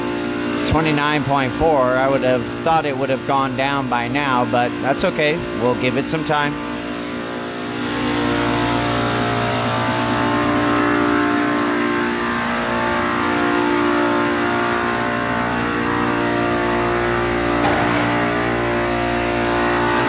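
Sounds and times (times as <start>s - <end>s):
chiller compressors humming: 0.0s - 20.0s
deeper compressor hum: 0.0s - 20.0s.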